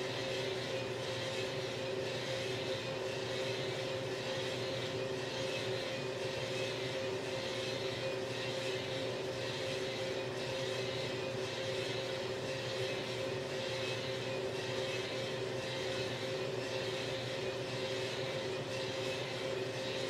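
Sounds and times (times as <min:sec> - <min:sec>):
coffee roaster motor hum: 0:00.0 - 0:20.0.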